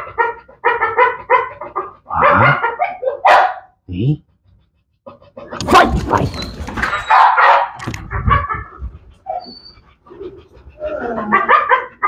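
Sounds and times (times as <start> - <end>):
dogs barking: 0.0 - 3.8, 5.0 - 12.0.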